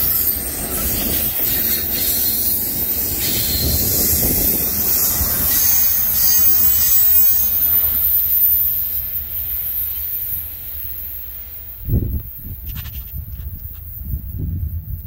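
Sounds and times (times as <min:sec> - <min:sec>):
faint high wheel squeals: 0:00.0 - 0:15.0
freight train wheels on rails: 0:00.0 - 0:15.0.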